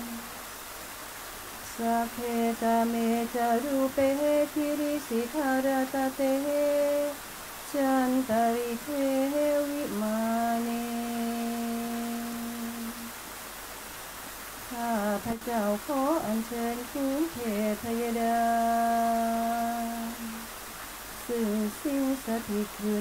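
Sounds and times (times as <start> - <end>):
person singing a devotional chant: 0.0 - 0.3, 1.7 - 13.1, 14.7 - 20.5, 21.2 - 23.0.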